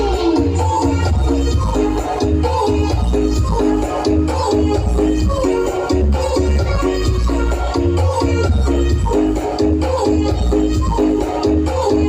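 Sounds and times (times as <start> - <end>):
loud dance music with heavy bass: 0.0 - 12.0.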